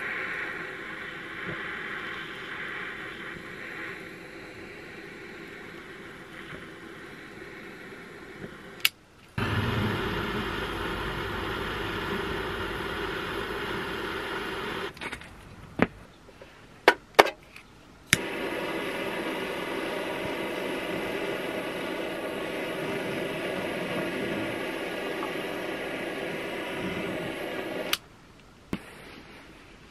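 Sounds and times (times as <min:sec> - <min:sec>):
torch lighter hissing: 0:00.0 - 0:15.0, 0:18.1 - 0:28.0.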